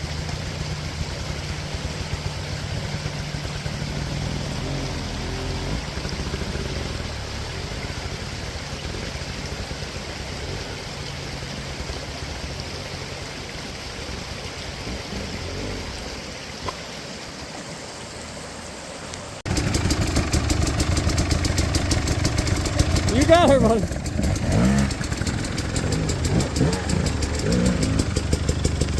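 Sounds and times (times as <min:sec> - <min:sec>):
dirt bike engine: 0:00.0 - 0:16.8, 0:19.5 - 0:28.9.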